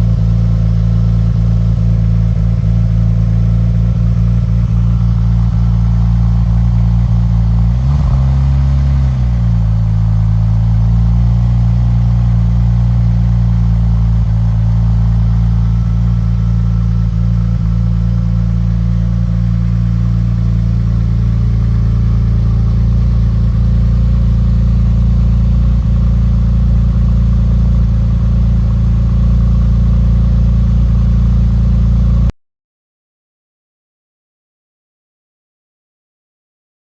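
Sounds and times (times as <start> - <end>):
car engine idling: 0.0 - 32.3.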